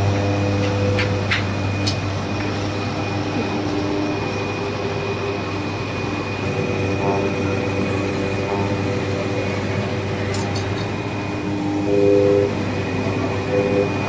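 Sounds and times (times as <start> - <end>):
cutting machine humming and whining: 0.0 - 14.0.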